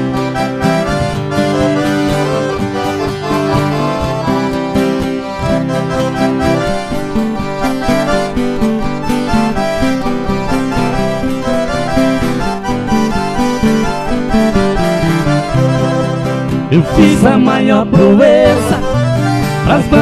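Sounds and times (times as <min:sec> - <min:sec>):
free-reed instrument melody: 0:00.0 - 0:20.0
strummed acoustic guitar: 0:00.0 - 0:20.0.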